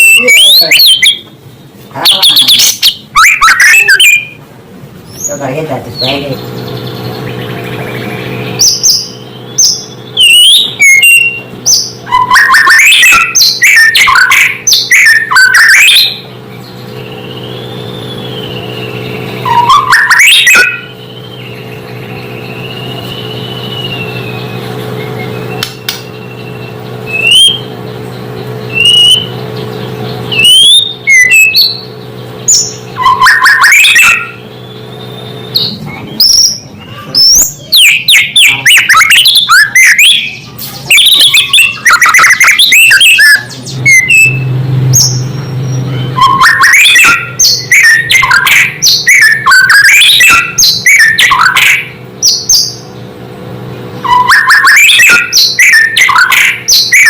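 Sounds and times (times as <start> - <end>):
bird singing whistles and chatter: 0.0 - 1.3, 1.9 - 4.4, 5.1 - 52.9, 54.0 - 57.0
steady low hum: 0.0 - 57.0.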